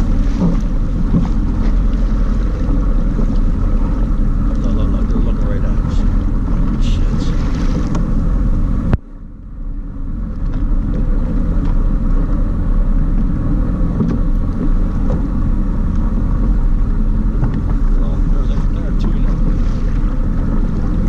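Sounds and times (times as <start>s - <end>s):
watercraft engine rumble: 0.0s - 21.0s.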